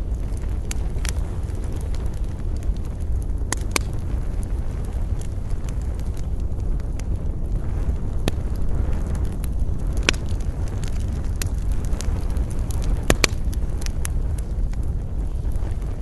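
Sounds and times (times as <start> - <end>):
campfire crackling and popping: 0.0 - 16.0
low rumble of wind: 0.0 - 16.0.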